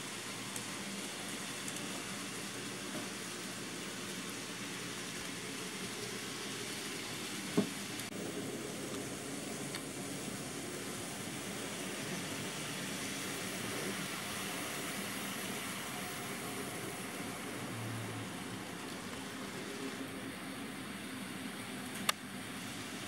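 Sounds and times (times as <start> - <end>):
model train mechanical hum: 0.0 - 23.0.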